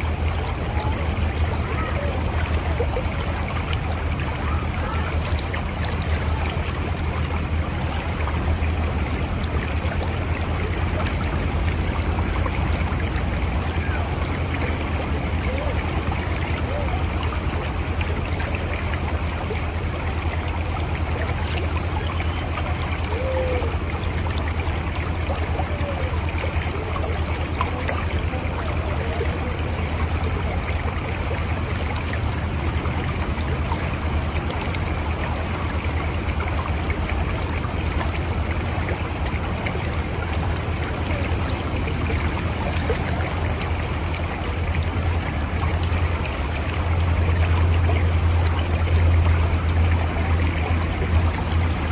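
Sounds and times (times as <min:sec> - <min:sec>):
river flowing over rocks: 0:00.0 - 0:51.9.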